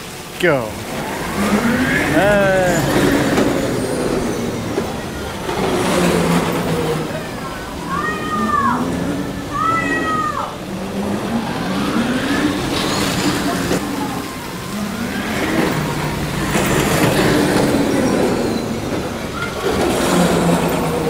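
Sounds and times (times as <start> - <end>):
roller coaster rumbling on track: 0.0 - 21.0.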